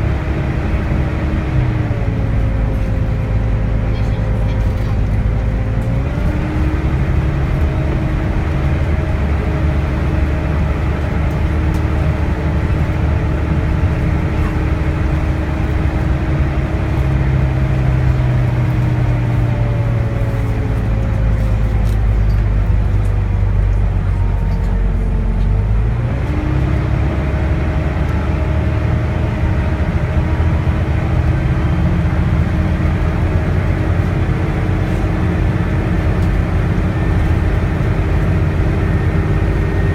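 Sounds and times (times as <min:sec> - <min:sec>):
bus diesel engine pulling hard: 0:00.0 - 0:39.9.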